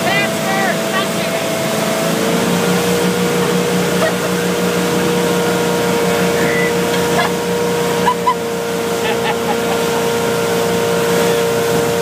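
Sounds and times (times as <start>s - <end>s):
motorboat engine running: 0.0s - 12.0s
wake rushing: 0.0s - 12.0s
wind: 0.0s - 12.0s.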